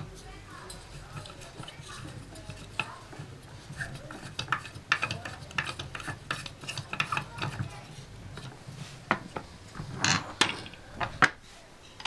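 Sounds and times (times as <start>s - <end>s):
wooden toy parts clicking and knocking: 0.8s - 11.4s.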